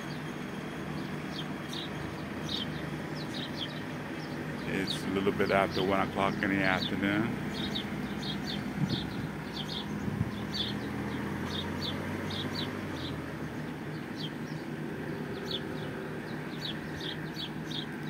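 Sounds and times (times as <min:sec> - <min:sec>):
small birds chirping: 0:00.0 - 0:18.0
vehicle engine hum: 0:00.0 - 0:18.0.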